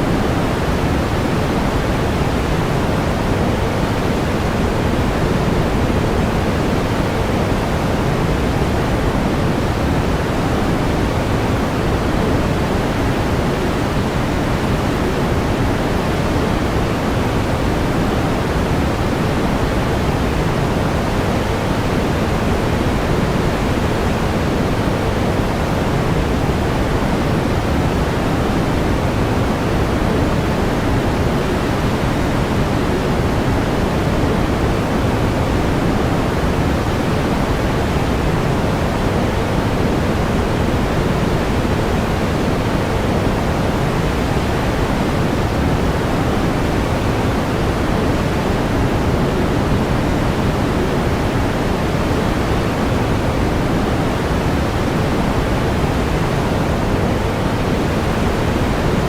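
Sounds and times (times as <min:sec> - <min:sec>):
pink noise hiss: 0:00.0 - 0:59.0.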